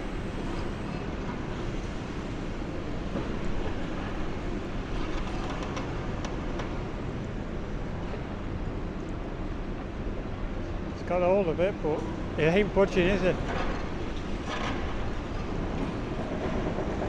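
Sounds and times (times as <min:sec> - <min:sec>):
excavator engine and hydraulic rumble: 0:00.0 - 0:17.0.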